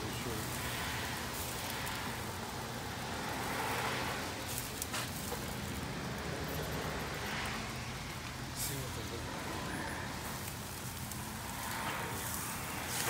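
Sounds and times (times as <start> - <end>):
sizzling hiss on hot coals: 0.0 - 13.0.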